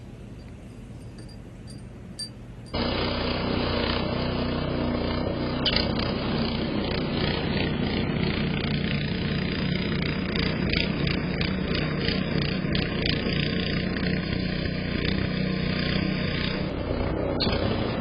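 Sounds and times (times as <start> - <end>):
engine-like drone: 0.0 - 18.0.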